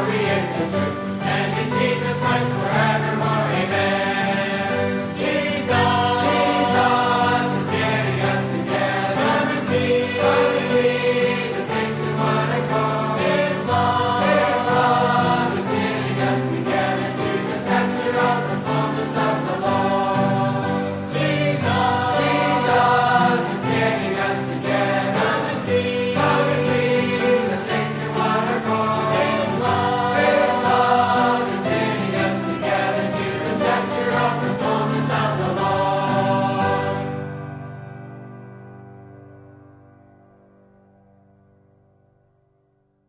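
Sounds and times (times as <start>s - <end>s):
choir singing a hymn: 0.0s - 37.6s.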